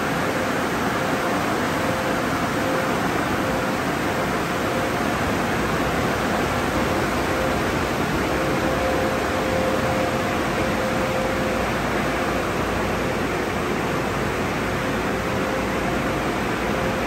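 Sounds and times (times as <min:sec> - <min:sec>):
faint machinery whine: 0:00.0 - 0:17.0.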